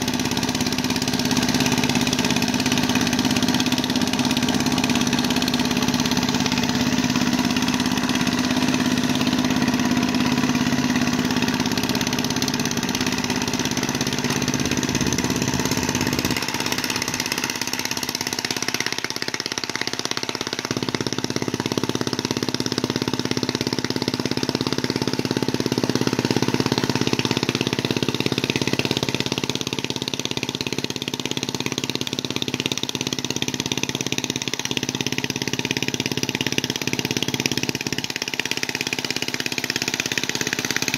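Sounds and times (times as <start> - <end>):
tiller engine running: 0.0 - 40.9.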